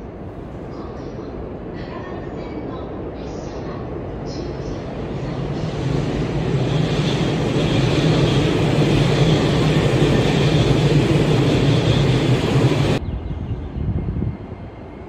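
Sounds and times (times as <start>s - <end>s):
electric train rumbling on rails: 0.0s - 15.0s.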